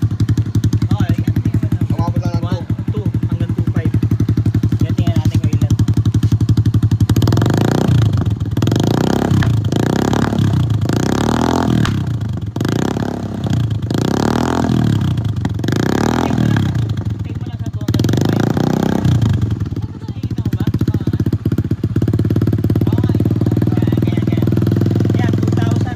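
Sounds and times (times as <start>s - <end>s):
motorcycle engine idling and revving: 0.0s - 25.9s.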